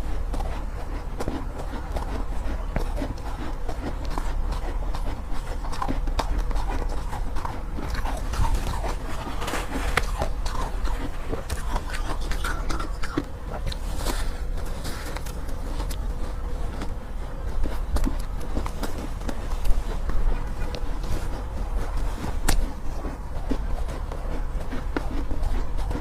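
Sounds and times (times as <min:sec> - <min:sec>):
chewing shaved ice: 0:00.0 - 0:26.0.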